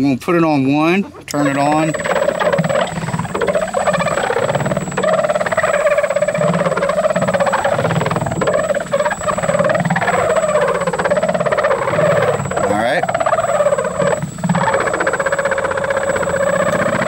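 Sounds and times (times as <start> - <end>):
polisher motor hum with high whine: 1.3 - 17.0.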